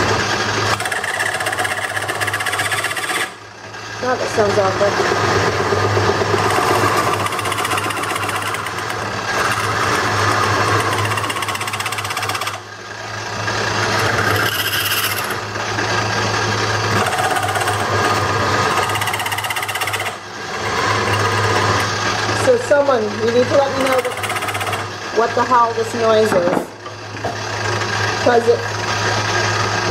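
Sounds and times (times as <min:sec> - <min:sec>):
lathe humming: 0:00.0 - 0:29.9
turning tool rattling on wood: 0:00.7 - 0:03.4, 0:04.3 - 0:12.6, 0:13.6 - 0:16.1, 0:16.8 - 0:28.4.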